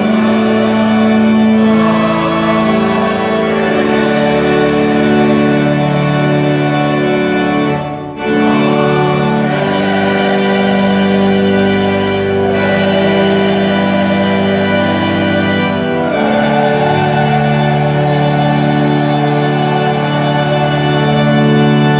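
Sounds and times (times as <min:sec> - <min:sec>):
organ playing held chords: 0:00.0 - 0:21.9.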